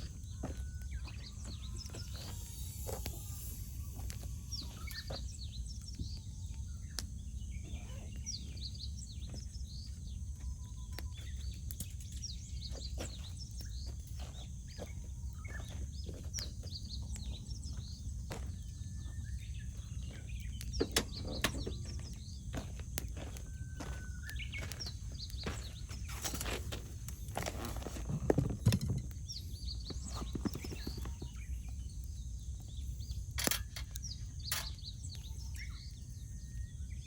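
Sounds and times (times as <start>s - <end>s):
campfire crackling: 0.0s - 7.6s, 8.2s - 37.0s
songbirds chirping: 0.0s - 37.0s.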